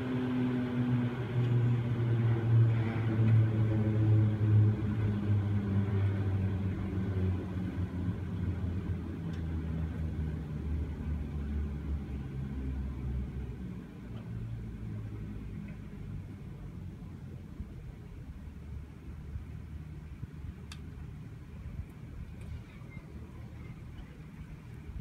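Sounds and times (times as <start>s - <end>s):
ropeway cable machinery hum: 0.0s - 25.0s.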